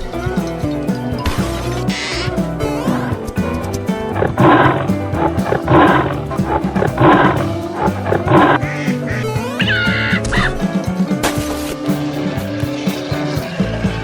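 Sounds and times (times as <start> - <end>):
cartoon background music: 0.0 - 14.0.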